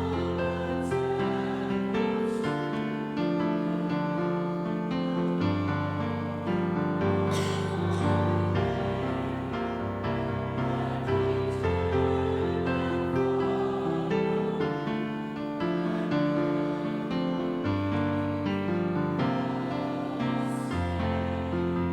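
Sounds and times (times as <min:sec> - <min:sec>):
piano playing slow chords: 0:00.0 - 0:21.9.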